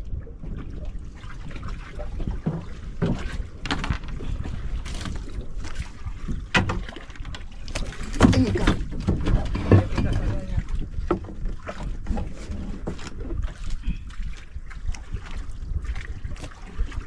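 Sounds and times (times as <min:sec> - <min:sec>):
boat engine rumble: 0:00.0 - 0:17.0
knocks and splashes: 0:00.0 - 0:17.0
wind on microphone: 0:00.0 - 0:17.0.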